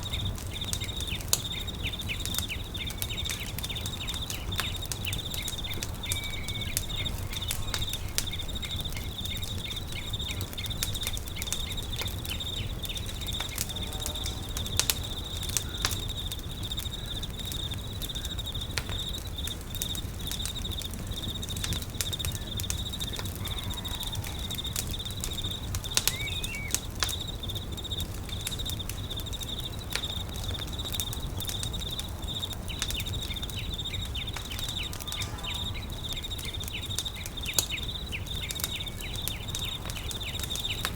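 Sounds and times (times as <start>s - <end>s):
bird chirp: 0.0s - 40.9s
campfire crackling and popping: 0.0s - 40.9s
high insect trill: 0.0s - 40.9s.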